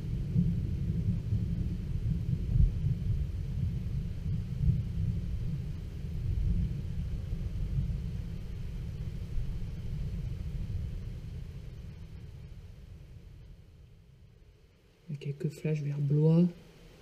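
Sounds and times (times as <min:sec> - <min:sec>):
low rolling thunder: 0:00.0 - 0:17.0.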